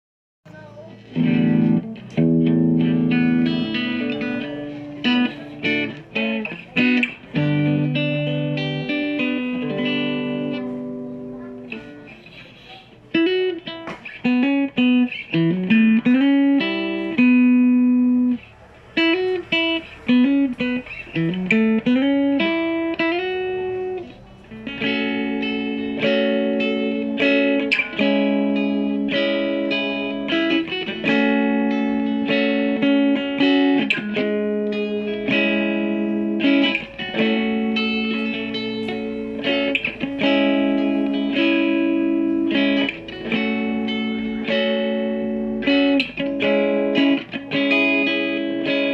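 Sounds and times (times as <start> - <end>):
electric guitar playing: 0.5 - 48.9.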